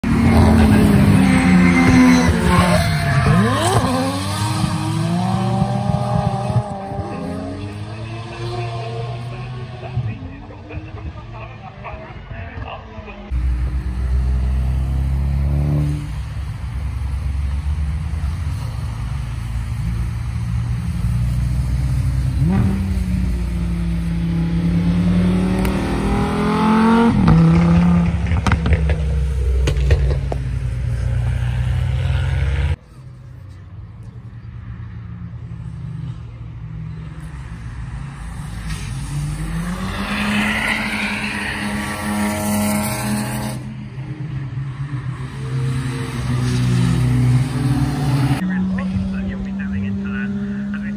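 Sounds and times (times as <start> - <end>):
distant engines: 0.0 - 50.9
race cars driving past: 0.0 - 50.9.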